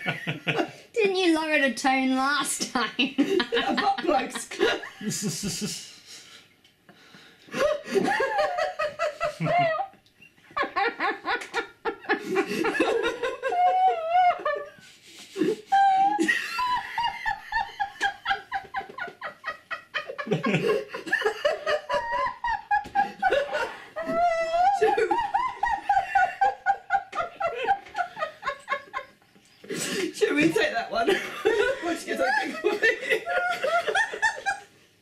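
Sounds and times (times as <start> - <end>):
people laughing hard: 0.0 - 0.7, 3.0 - 5.8, 7.5 - 34.7.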